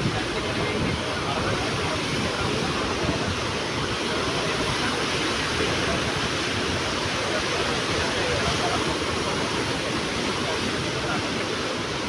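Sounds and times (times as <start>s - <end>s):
sea surf breaking on shore: 0.0s - 12.0s.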